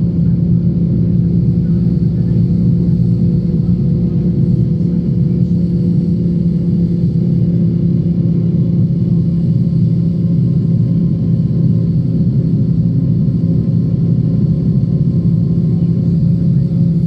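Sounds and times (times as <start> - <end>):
constant low hum: 0.0 - 17.0
train rumble inside carriage: 0.0 - 17.0.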